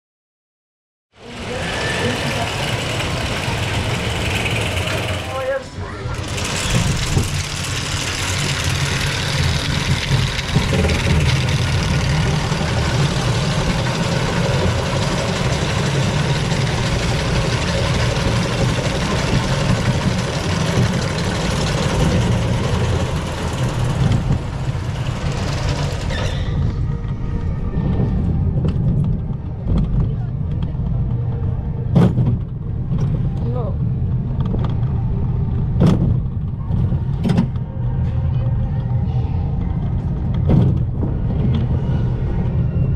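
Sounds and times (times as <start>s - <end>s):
low rumble of wheels: 1.1s - 42.9s
roller coaster rushing noise: 1.2s - 42.9s.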